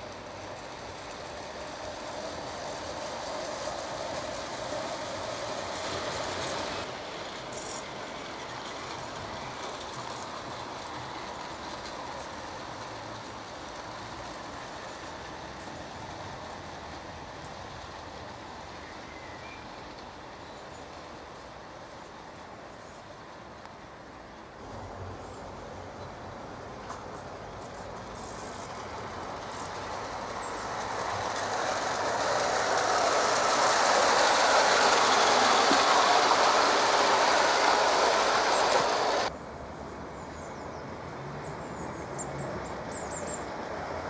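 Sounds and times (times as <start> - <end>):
model train wheels on rails: 0.0 - 44.0.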